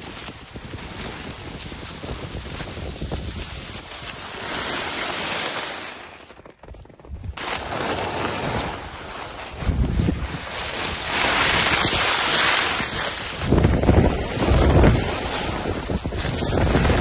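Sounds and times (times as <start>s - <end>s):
wind on microphone: 0.0s - 5.6s, 7.0s - 17.0s
skis scraping on snow: 0.0s - 17.0s.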